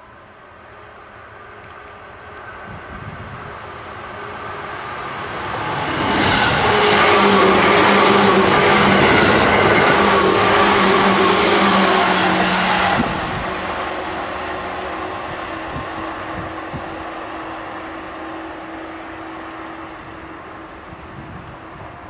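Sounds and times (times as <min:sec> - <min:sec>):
train passing: 0:00.0 - 0:22.0
wheels on rail: 0:00.0 - 0:22.0.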